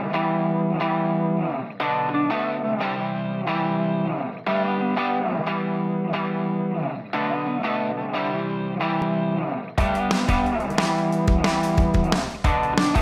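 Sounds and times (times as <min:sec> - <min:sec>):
plucked guitar chords: 0:00.0 - 0:13.0.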